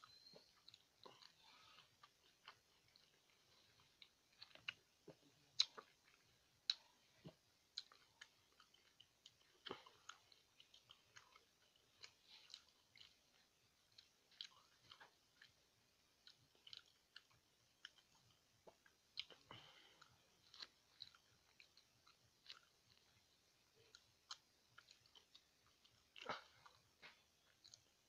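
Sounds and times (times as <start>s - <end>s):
person chewing: 0.0s - 28.0s.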